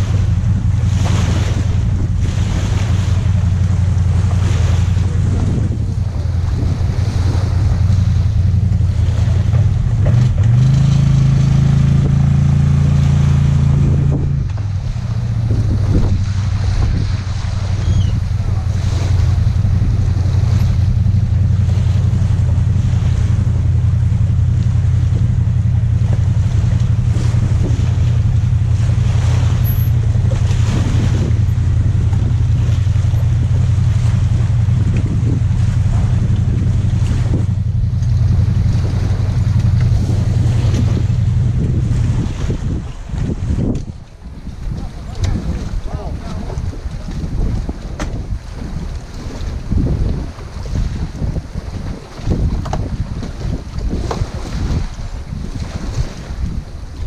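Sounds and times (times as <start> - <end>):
utility vehicle engine revving: 0.0 - 57.0
wind buffeting microphone: 0.0 - 57.0.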